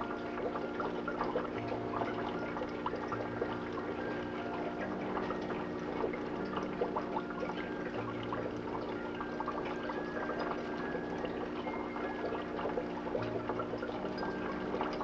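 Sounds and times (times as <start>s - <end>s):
aquarium water bubbling: 0.0s - 15.0s.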